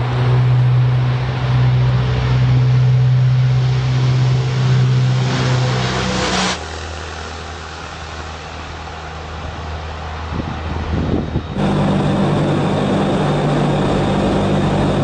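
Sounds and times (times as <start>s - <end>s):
turboprop bomber taking off: 0.0s - 15.0s.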